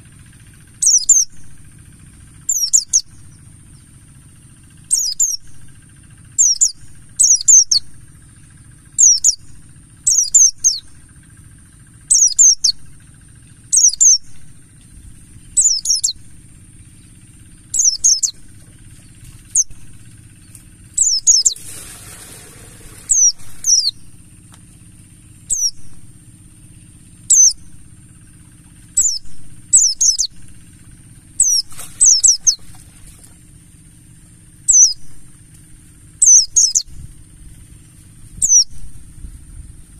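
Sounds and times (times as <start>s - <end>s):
bird twittering song: 0.0s - 21.7s, 22.4s - 39.9s.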